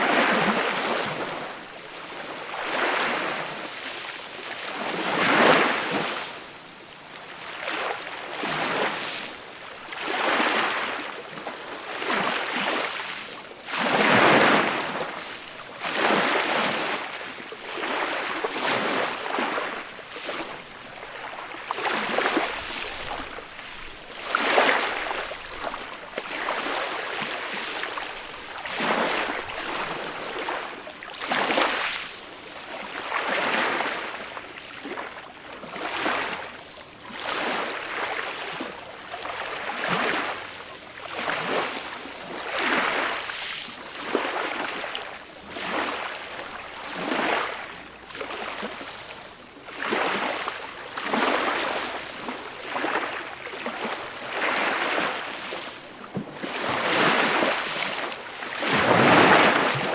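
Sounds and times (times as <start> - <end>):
gentle sea waves washing on beach: 0.0 - 59.9.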